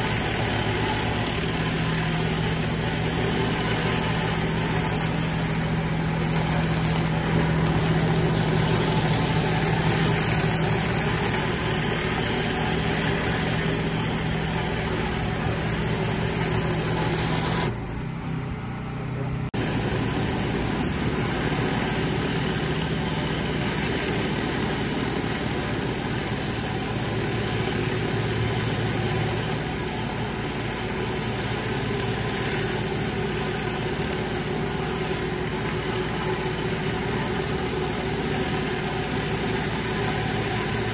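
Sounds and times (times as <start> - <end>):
pressure washer spray rushing: 0.0 - 17.8, 19.6 - 40.9.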